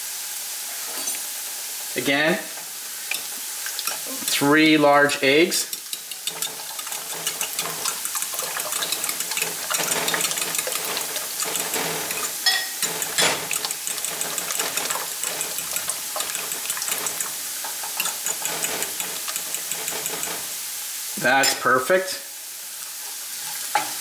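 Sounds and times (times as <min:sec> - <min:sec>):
potatoes sizzling in oil: 0:00.0 - 0:24.0.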